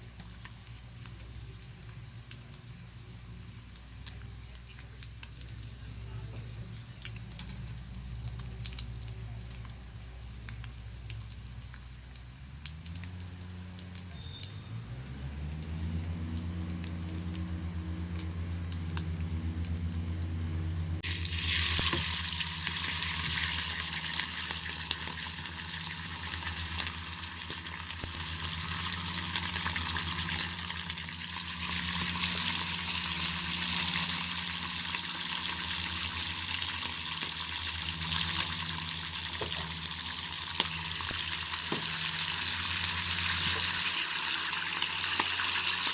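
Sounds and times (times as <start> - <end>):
bacon sizzling in a pan: 0.0 - 14.4, 21.0 - 45.9
low steady hum: 0.0 - 45.9.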